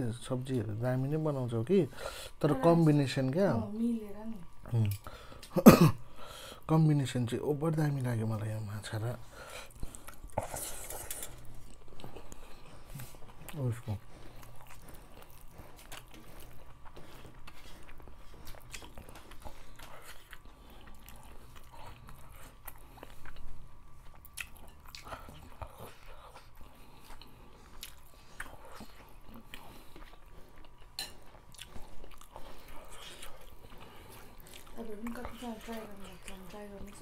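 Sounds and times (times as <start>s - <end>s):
people chewing: 4.5s - 6.7s, 7.3s - 37.0s.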